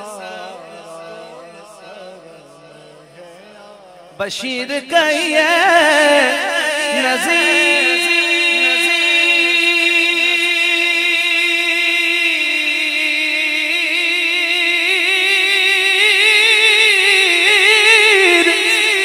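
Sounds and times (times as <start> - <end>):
man singing a long note: 0.0 - 19.0.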